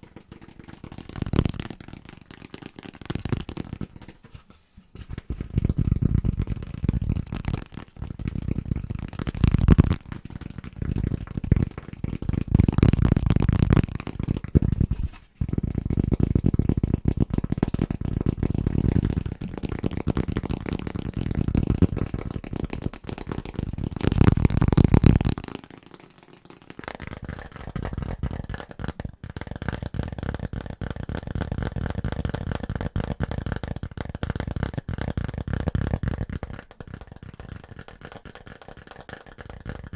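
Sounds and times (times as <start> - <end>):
rapid tapping on household objects: 0.0 - 39.9.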